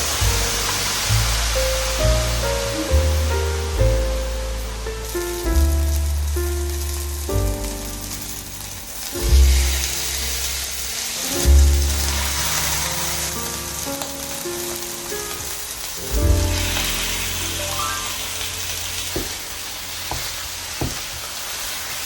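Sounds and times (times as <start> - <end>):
slow solo piano music: 0.0 - 21.5
food sizzling in frying pan: 0.0 - 22.0.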